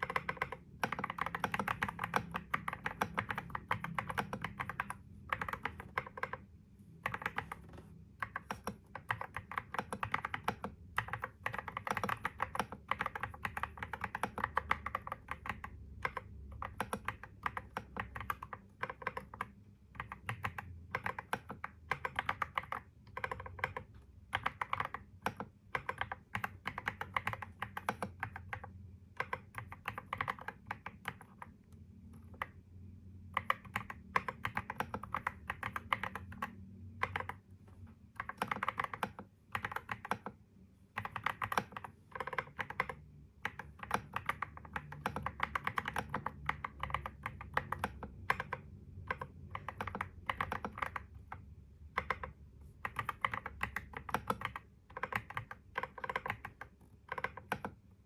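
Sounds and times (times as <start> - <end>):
typing on a computer keyboard: 0.0 - 58.0.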